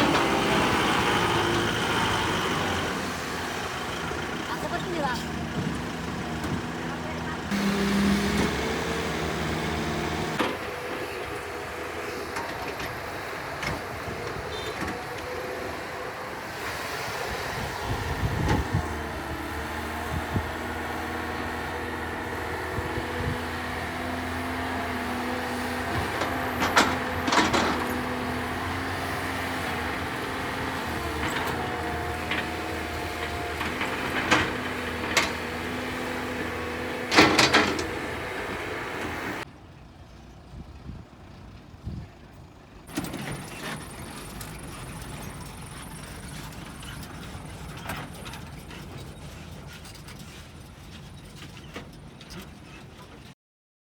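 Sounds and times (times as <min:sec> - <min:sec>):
excavator diesel engine running: 0:00.0 - 0:53.3.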